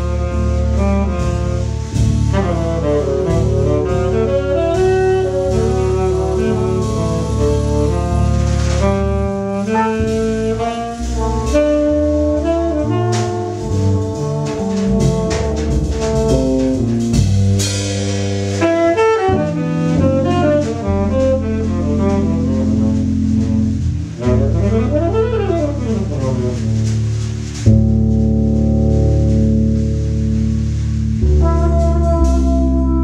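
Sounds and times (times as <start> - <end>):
saxophone: 0.0 - 17.4, 18.6 - 27.8, 31.2 - 33.0
bass: 0.0 - 33.0
drum kit with cymbals: 0.0 - 33.0
trumpet: 0.0 - 33.0.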